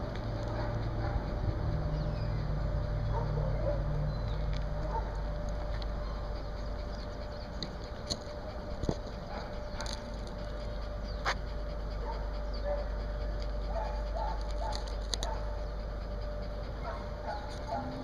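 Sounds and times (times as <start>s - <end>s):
small dog panting: 0.0s - 18.0s.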